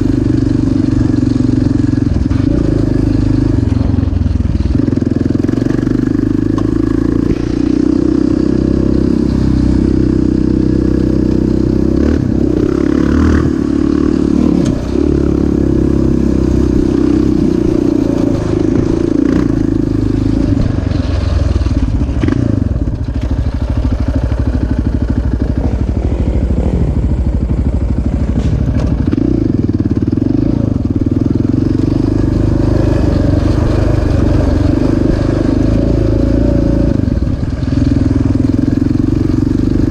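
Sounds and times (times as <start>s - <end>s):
off-road vehicle engine revving: 0.0s - 23.3s, 28.3s - 39.9s.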